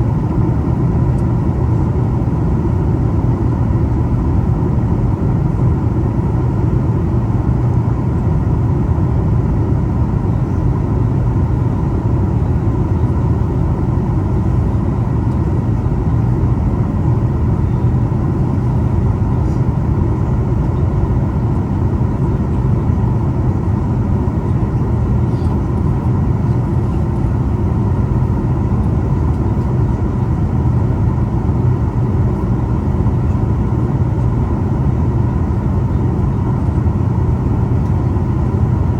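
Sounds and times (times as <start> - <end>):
airliner cabin engine roar: 0.0 - 38.9
faint steady hum: 0.0 - 38.9.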